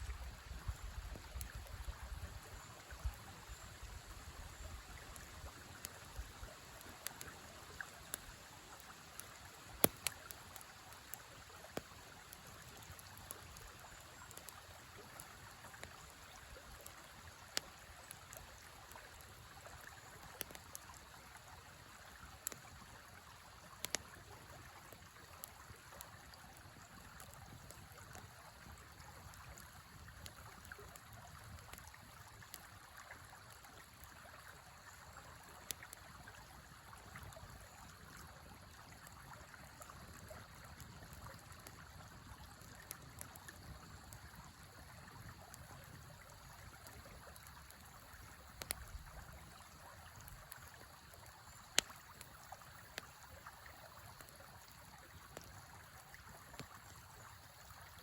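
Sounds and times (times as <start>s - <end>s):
river flowing: 0.0s - 37.2s, 37.8s - 58.0s
wood fire crackling: 5.0s - 34.6s, 39.5s - 58.0s.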